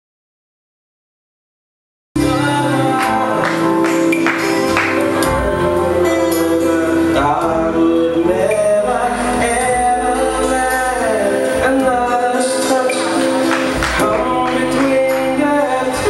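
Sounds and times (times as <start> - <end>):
amplified music: 2.2 - 16.0
man singing into a microphone: 2.2 - 16.0.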